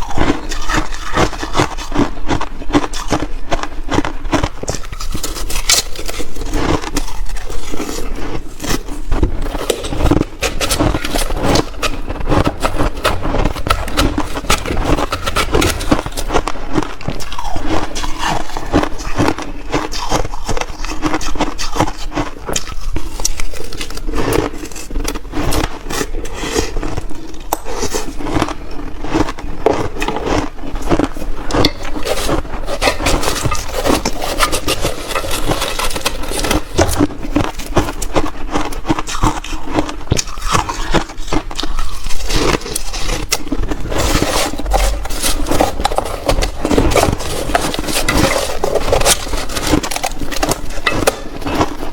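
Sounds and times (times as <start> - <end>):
chewing shaved ice crunching: 0.0 - 51.9.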